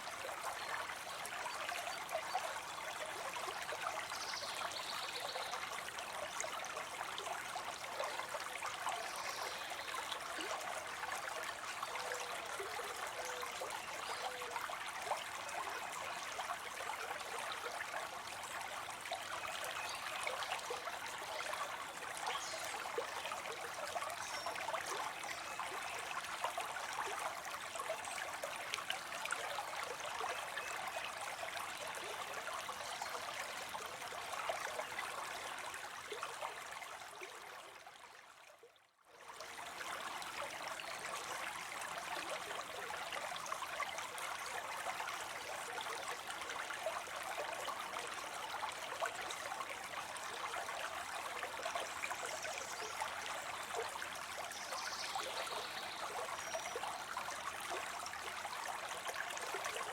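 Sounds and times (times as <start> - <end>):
water trickling into a pond: 0.0 - 59.9.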